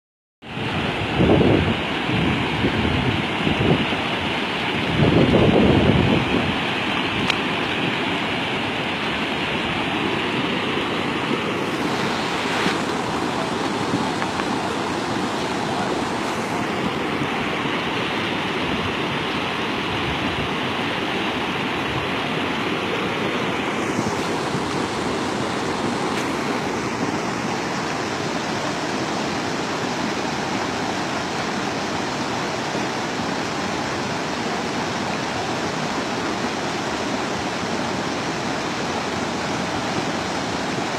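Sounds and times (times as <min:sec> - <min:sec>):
river rushing: 0:00.4 - 0:40.9.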